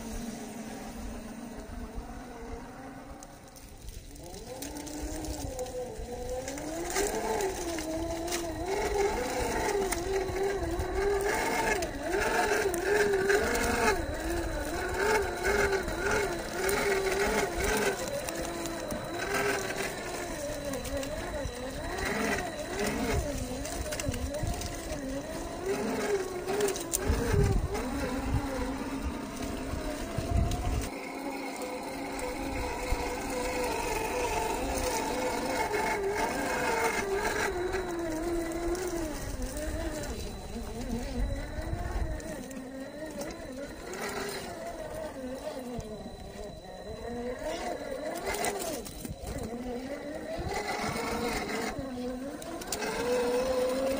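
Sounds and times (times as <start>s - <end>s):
electric motor and gears whining: 0.0s - 53.9s.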